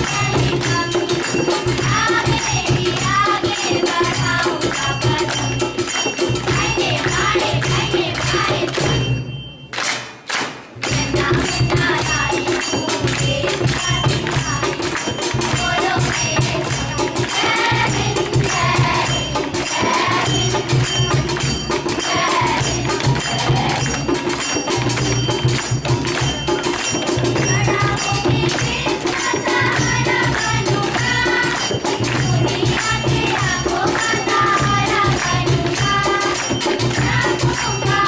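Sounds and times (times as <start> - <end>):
students singing: 0.0 - 9.0, 10.8 - 24.6, 27.3 - 38.0
hand percussion beat: 0.0 - 38.0.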